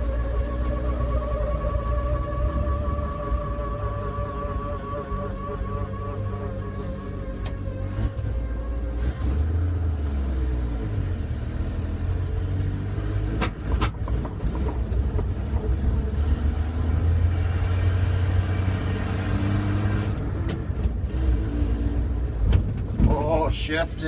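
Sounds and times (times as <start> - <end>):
pickup engine running: 0.0 - 24.0.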